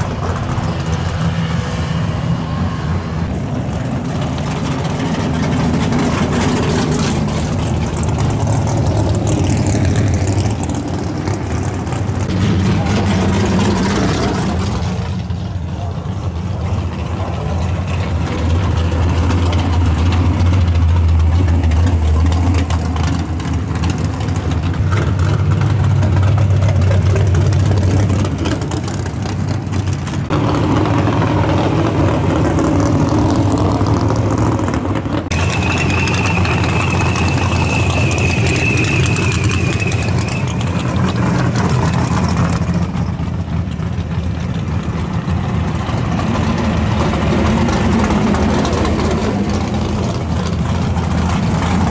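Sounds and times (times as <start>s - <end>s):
drag car engines rolling past: 0.0s - 51.9s.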